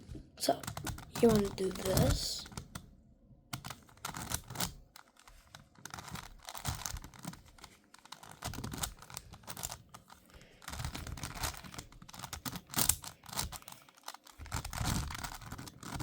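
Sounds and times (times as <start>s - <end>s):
plastic puzzle cube clicking: 0.6s - 2.9s, 3.5s - 16.0s.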